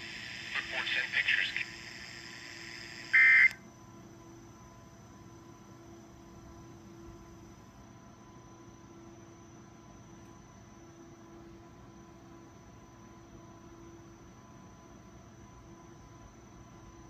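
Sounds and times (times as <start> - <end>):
faint hum with high whine: 0.0 - 17.0.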